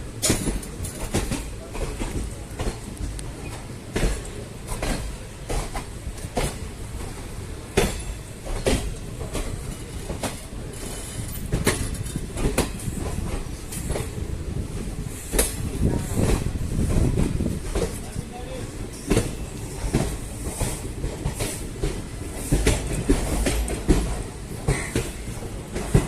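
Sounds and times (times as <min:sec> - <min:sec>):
train rumbling on rails: 0:00.0 - 0:26.0
wheels clacking over rail joints: 0:00.1 - 0:14.2, 0:14.8 - 0:26.0.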